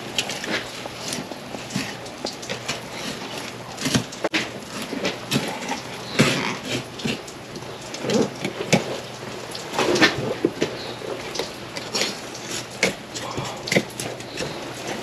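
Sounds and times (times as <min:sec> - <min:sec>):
knife scraping fish bones: 0:00.1 - 0:15.0.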